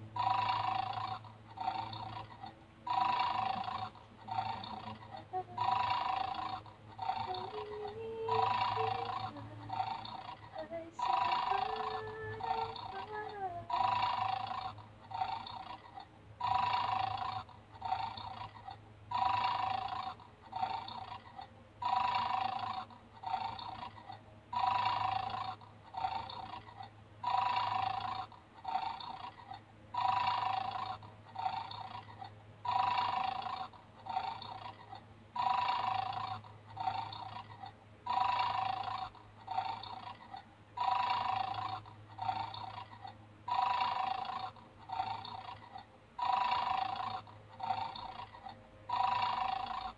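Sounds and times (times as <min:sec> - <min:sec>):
toy speaker snoring: 0:00.0 - 0:49.9.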